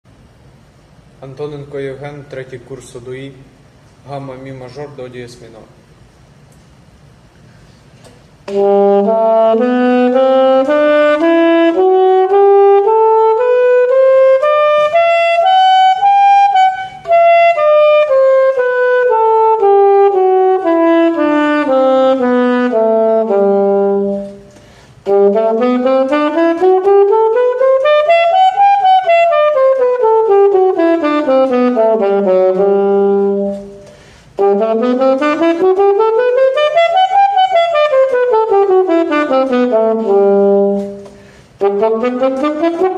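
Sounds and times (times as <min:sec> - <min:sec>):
saxophone playing scales: 0:08.0 - 0:42.9.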